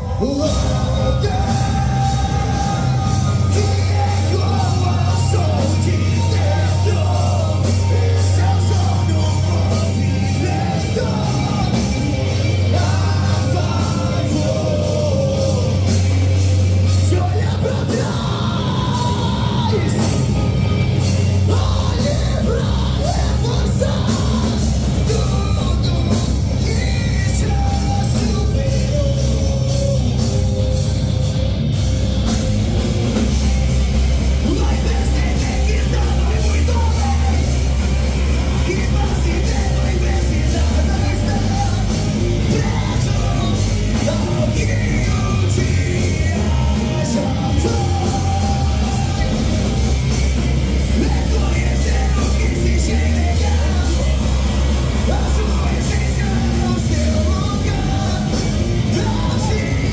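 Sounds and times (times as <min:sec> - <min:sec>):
bass guitar: 0:00.0 - 0:59.9
distorted electric guitars: 0:00.0 - 0:59.9
rapid drums and cymbals: 0:00.0 - 0:59.9.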